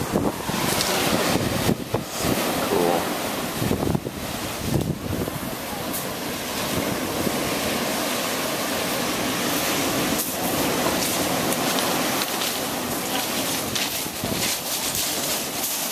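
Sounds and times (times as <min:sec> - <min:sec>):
ocean surf rushing in cave: 0:00.0 - 0:15.9.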